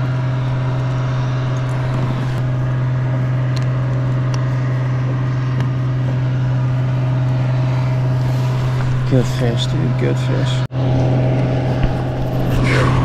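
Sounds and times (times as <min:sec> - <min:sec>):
steady low motor hum: 0:00.0 - 0:13.0.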